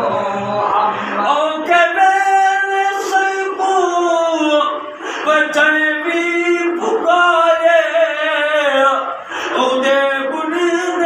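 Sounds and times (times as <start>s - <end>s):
man singing unaccompanied: 0.8s - 11.0s.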